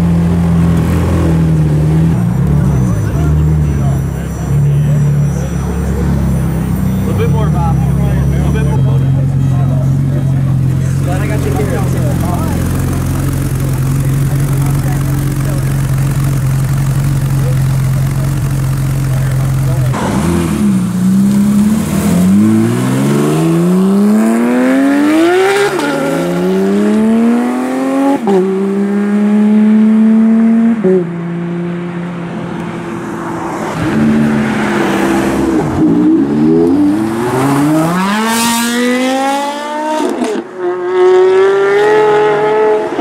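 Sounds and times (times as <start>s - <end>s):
sports car engines revving: 0.0s - 43.0s.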